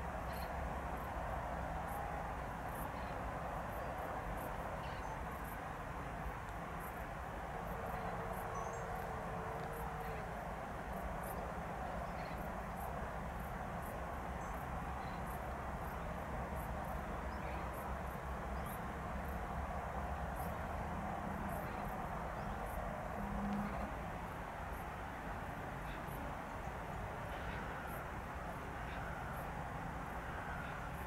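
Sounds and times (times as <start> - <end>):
steady hiss and low rumble: 0.0 - 31.0.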